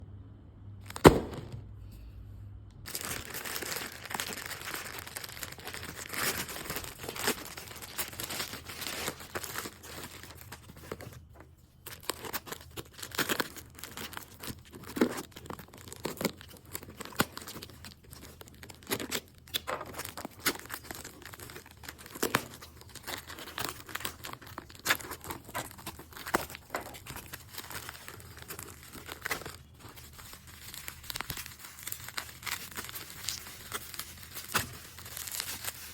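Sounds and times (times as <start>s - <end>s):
packaging tearing and crinkling: 0.8s - 1.6s, 2.9s - 35.9s.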